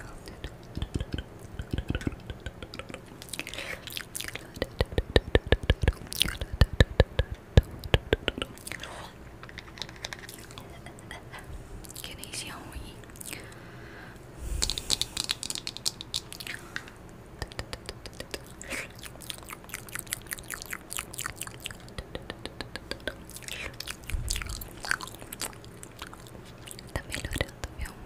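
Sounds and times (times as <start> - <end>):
wet mouth clicks and smacks: 0.3 - 11.0, 14.6 - 27.9.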